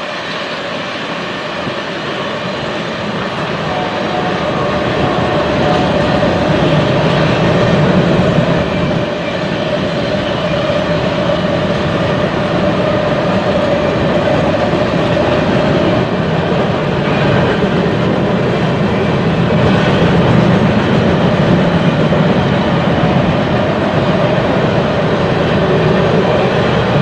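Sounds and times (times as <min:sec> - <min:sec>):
freight train rumble and rattle: 0:00.0 - 0:27.0.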